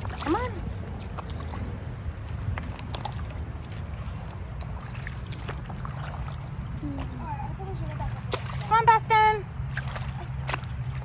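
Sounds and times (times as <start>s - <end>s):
creek water running: 0.0s - 11.0s
splashes from wading: 0.0s - 11.0s.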